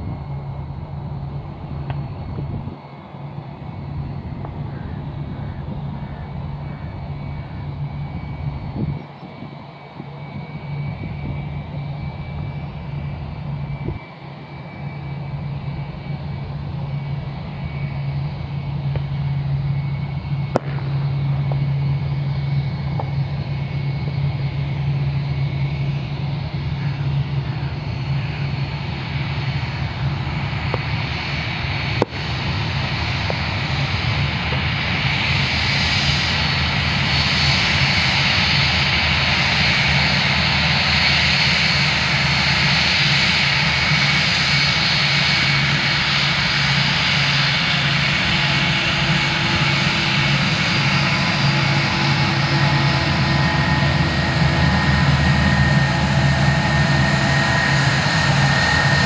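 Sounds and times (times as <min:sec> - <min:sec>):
jet engines humming: 0:00.0 - 0:59.0.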